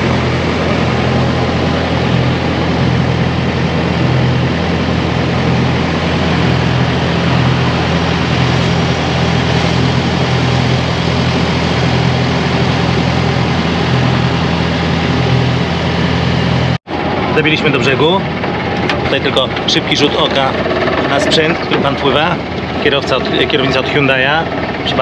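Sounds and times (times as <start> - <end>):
boat engine droning: 0.0 - 25.0
wind: 0.0 - 25.0.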